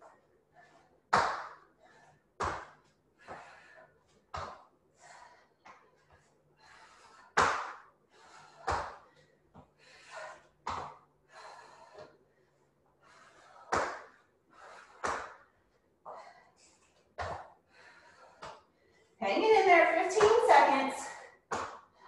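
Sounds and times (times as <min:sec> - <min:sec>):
person breathing hard: 0:00.5 - 0:19.2.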